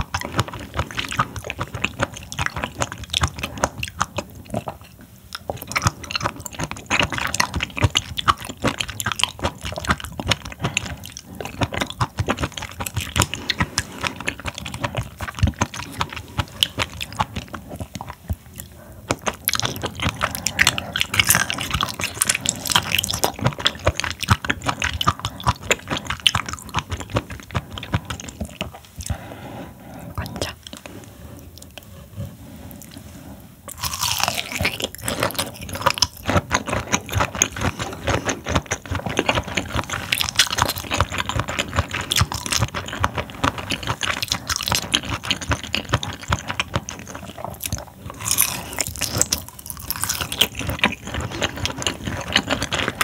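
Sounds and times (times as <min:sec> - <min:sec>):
wet chewing clicks and smacks: 0:00.0 - 0:32.1, 0:33.7 - 0:53.0.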